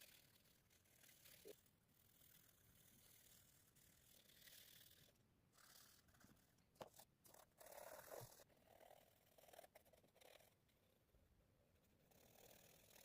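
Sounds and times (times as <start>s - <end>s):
pastel scratching on paper: 0.0s - 10.6s.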